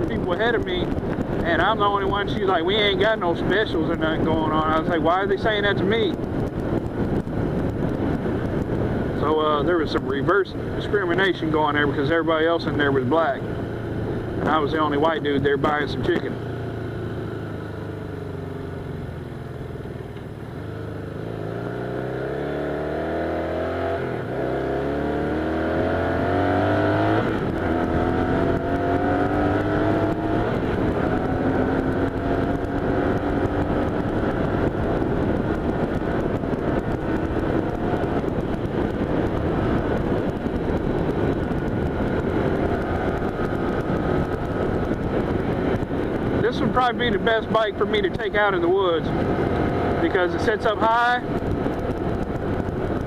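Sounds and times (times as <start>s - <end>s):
motorcycle engine accelerating: 0.0s - 53.0s
wind and road noise: 0.0s - 53.0s.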